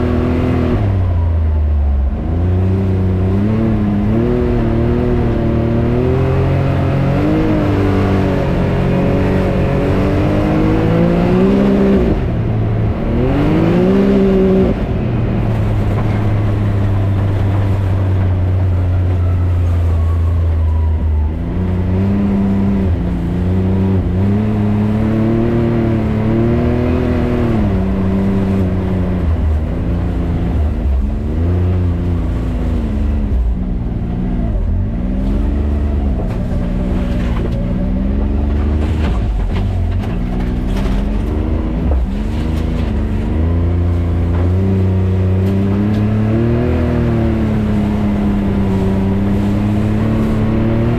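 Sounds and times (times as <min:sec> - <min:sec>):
engine revving: 0:00.0 - 0:50.9.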